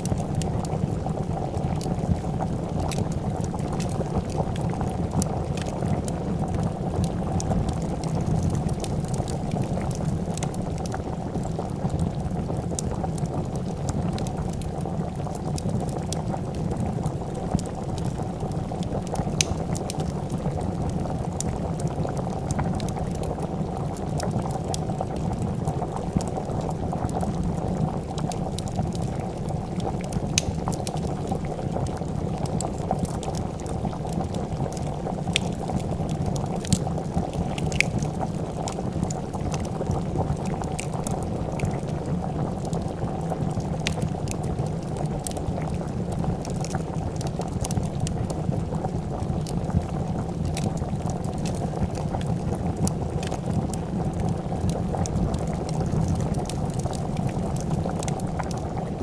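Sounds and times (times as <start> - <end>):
soup boiling and bubbling: 0.0 - 59.0
wood fire crackling: 0.0 - 59.0.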